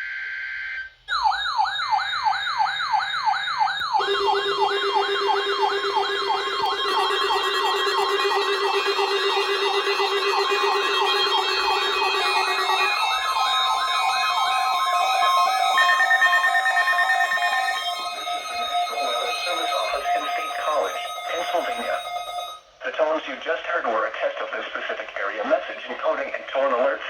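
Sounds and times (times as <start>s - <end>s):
wavering high alarm tone: 0.0s - 22.8s
electronic siren whoop: 0.1s - 22.6s
steady low alarm tone: 0.6s - 22.8s.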